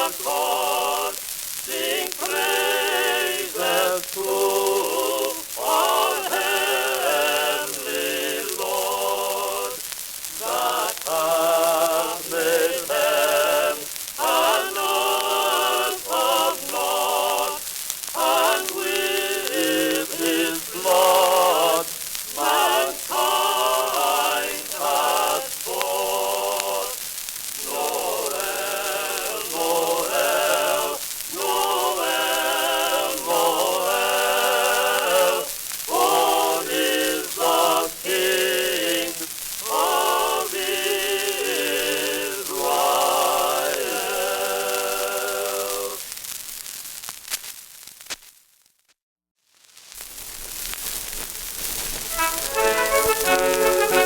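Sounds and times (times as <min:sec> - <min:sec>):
person singing with vibrato: 0:00.0 - 0:27.0, 0:27.6 - 0:46.0, 0:52.1 - 0:54.0
record surface hiss and crackle: 0:00.0 - 0:54.0.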